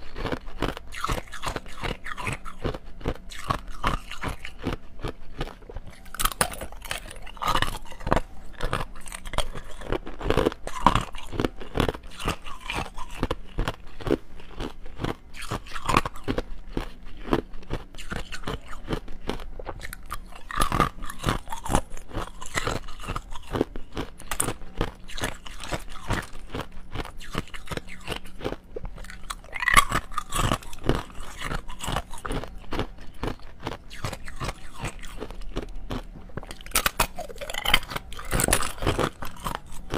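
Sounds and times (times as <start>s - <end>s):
ice cubes crunching in mouth: 0.0s - 39.9s.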